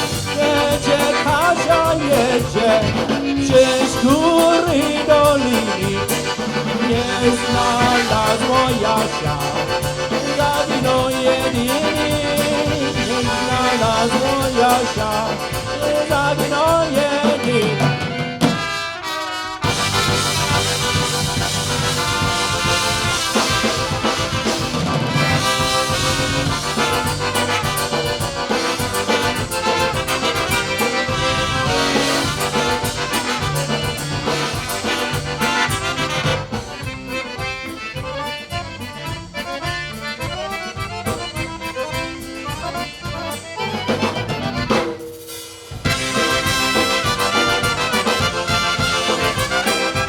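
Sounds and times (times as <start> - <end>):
accordion: 0.0 - 50.0
polka band playing: 0.0 - 50.0.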